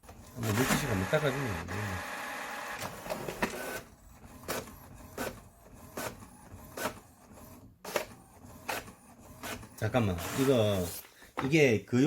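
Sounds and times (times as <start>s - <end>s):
inkjet printer running: 0.1s - 10.8s.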